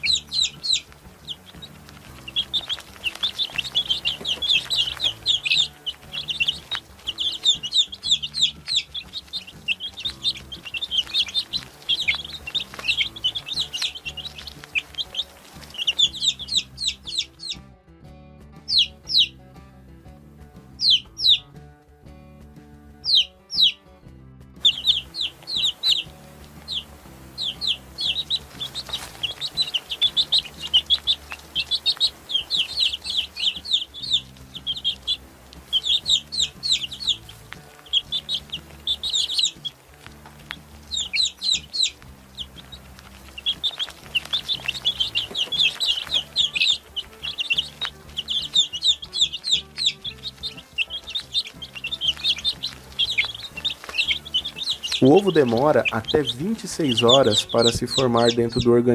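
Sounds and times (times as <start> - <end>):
baby chicks peeping: 0.0 - 17.7, 18.5 - 21.7, 22.4 - 58.9
soft background music: 0.0 - 58.9.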